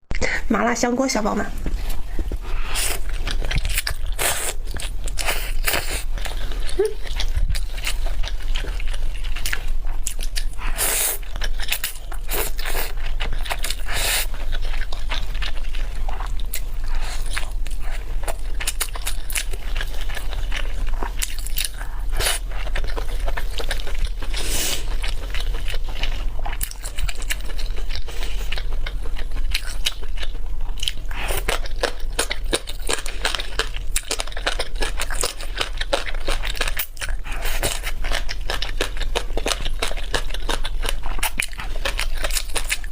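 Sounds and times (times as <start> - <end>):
person chewing crunchy food: 1.6 - 42.9.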